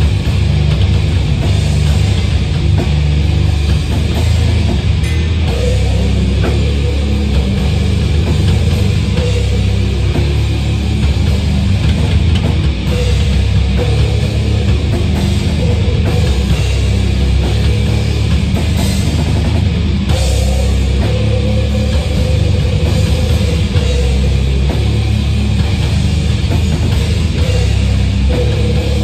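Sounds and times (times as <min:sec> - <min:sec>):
electric bass through amplifier: 0:00.0 - 0:29.0
heavy metal music with drums: 0:00.0 - 0:29.0.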